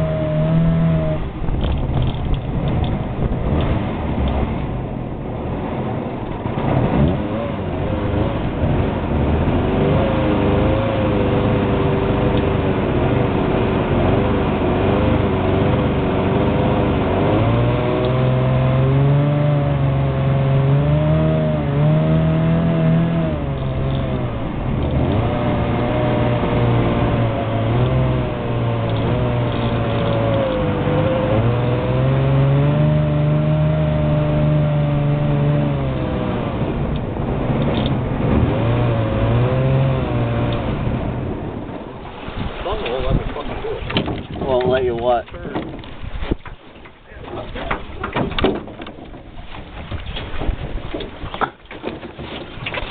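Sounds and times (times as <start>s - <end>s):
jet boat engine running: 0.0s - 52.9s.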